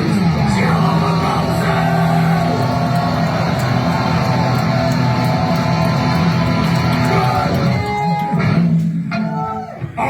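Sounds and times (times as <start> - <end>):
distorted heavy rock guitar: 0.0 - 10.0.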